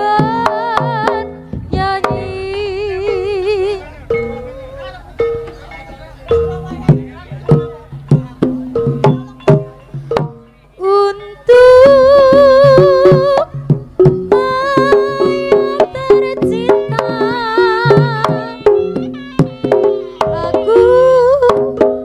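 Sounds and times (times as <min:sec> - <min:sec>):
drum strokes: 0:00.0 - 0:22.0
struck tuned gongs: 0:00.2 - 0:22.0
wavering melody line: 0:01.2 - 0:21.5.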